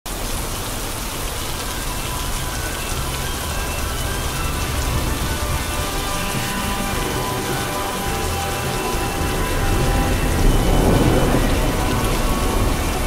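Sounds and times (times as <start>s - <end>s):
steady rain: 0.1s - 13.0s.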